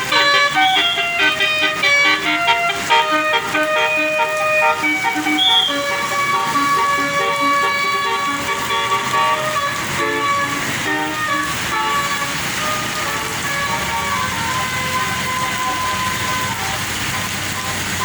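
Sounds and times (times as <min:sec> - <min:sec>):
multi-tone musical bus horn: 0:00.0 - 0:18.0.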